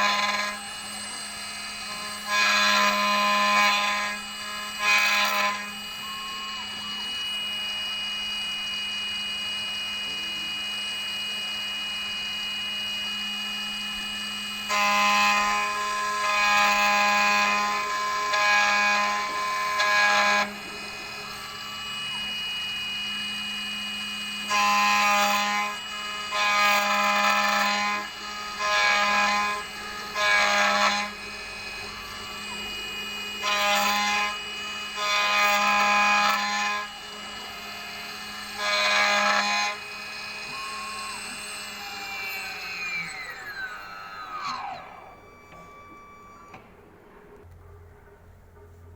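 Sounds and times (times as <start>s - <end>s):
high-pitched cutter whine: 0.0s - 47.5s
key-cutting machine hum: 0.0s - 47.5s.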